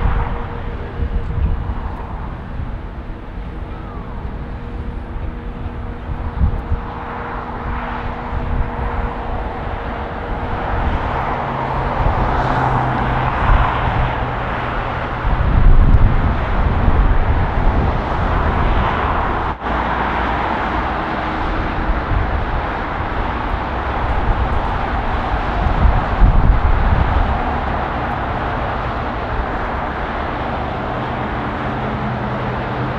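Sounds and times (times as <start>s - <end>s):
heavy low rumble: 0.0s - 32.9s
jet engines roaring: 0.0s - 32.9s.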